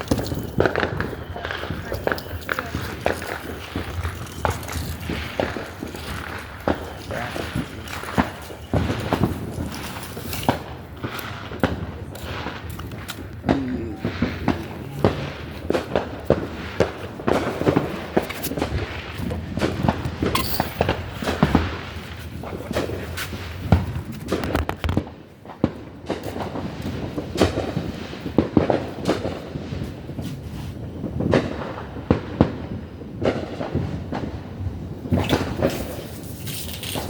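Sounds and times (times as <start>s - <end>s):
firecrackers popping: 0.0s - 37.0s.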